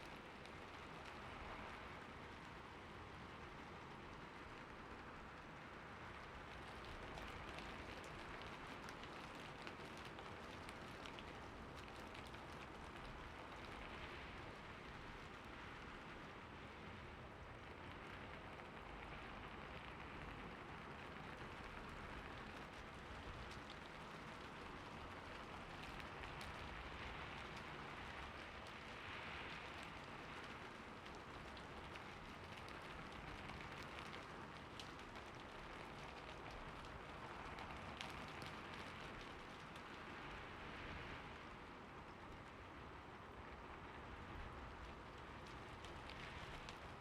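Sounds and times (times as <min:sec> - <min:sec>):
soft rain falling: 0:00.0 - 0:47.0.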